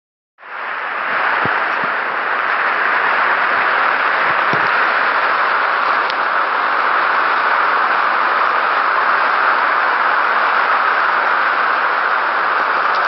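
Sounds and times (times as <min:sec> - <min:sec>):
loud rushing noise: 0:00.4 - 0:13.0.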